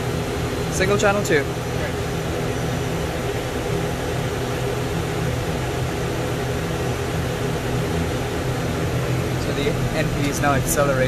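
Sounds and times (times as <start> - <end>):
turboprop engines droning in cockpit: 0.0 - 11.0.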